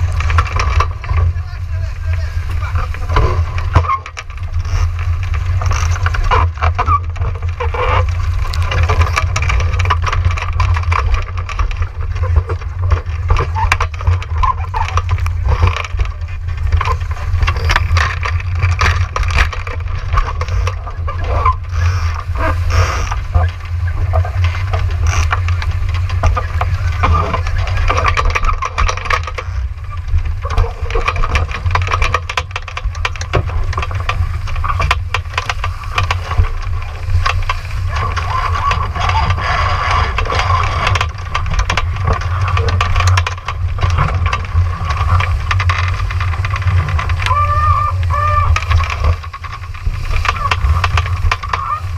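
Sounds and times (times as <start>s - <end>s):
waves splashing against boat hull: 0.0s - 51.9s
wind buffeting microphone: 0.0s - 51.9s.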